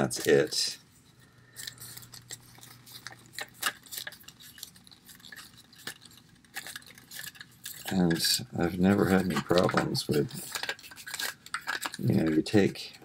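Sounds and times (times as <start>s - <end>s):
plastic doll clicking and rustling: 1.4s - 13.0s.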